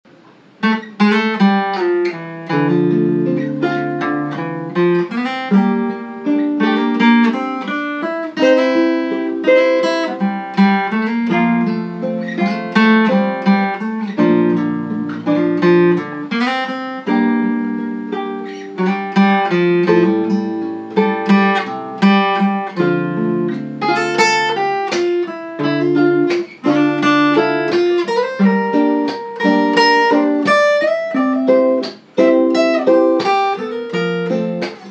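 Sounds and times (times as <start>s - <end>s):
plucked guitar music: 0.1s - 34.9s.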